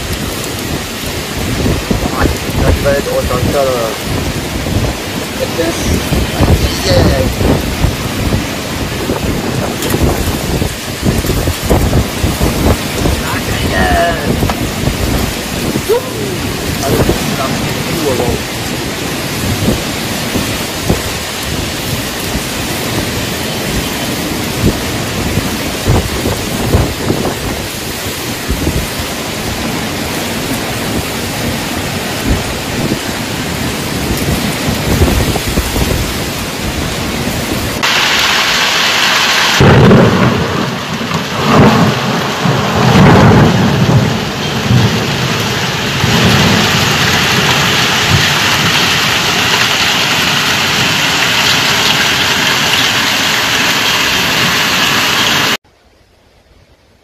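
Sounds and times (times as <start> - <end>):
thunder rumbling: 0.0 - 55.6
heavy rain pouring: 0.0 - 57.0.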